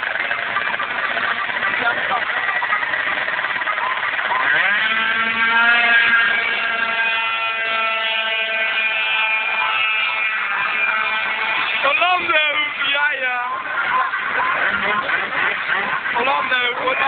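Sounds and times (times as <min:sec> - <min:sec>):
scooter engines revving: 0:00.0 - 0:17.0.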